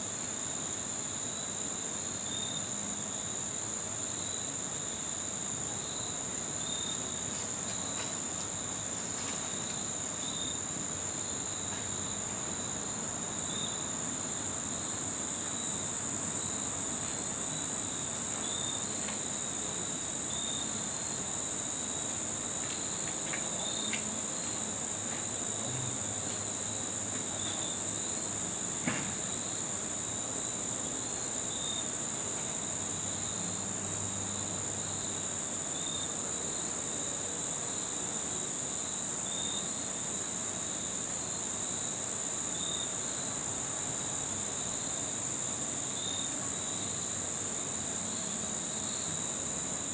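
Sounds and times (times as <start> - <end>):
crickets trilling: 0.0 - 49.9
low cricket chirp: 0.0 - 49.9.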